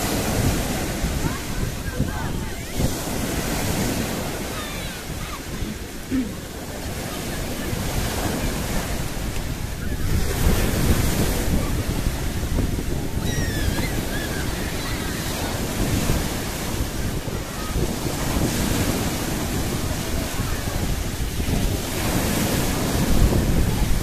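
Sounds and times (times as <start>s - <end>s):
surf breaking on beach: 0.0s - 24.0s
wind buffeting microphone: 0.0s - 24.0s.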